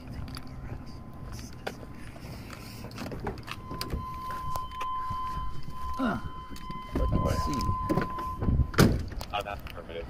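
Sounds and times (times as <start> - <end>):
steady electronic beep tone: 0.0 - 8.8
low rumble: 0.0 - 9.2.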